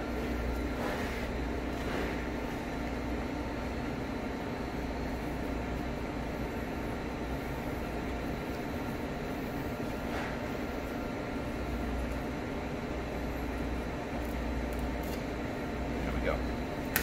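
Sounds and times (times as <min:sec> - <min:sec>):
ventilation fans humming: 0:00.0 - 0:17.0.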